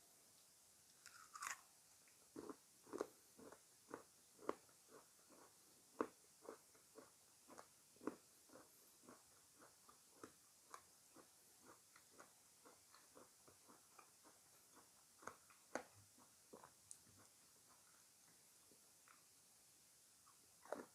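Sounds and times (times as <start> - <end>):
crunchy fruit chewing: 1.0 - 18.1, 20.2 - 20.9.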